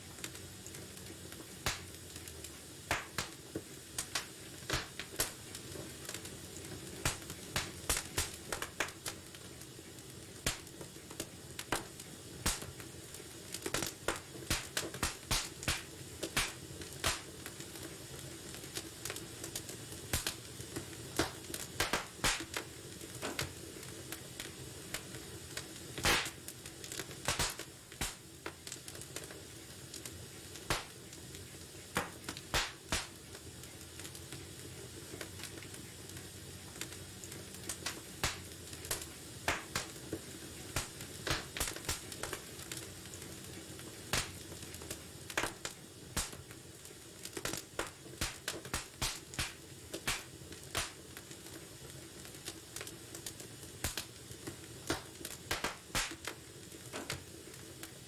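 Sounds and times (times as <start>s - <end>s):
pops and snaps of fire: 0.0s - 58.0s
wood fire crackling: 0.0s - 58.0s.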